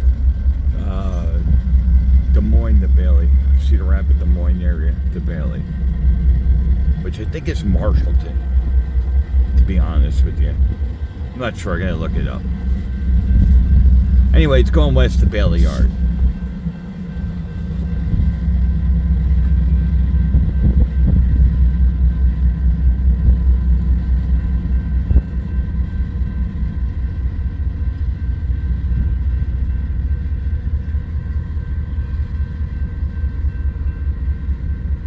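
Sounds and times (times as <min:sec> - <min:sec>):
faint steady tones: 0:00.0 - 0:35.0
freight train rumbling past: 0:00.0 - 0:35.0.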